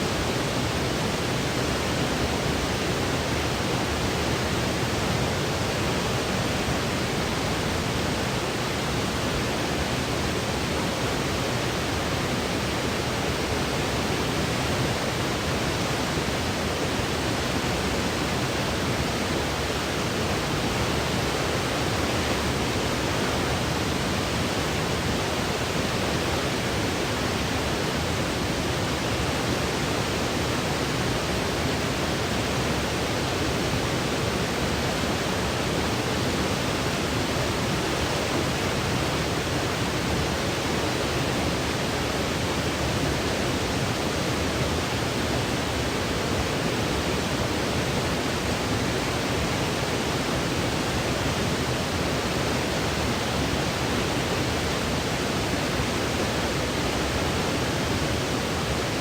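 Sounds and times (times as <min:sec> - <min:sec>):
electronic white noise hiss: 0:00.0 - 0:59.0.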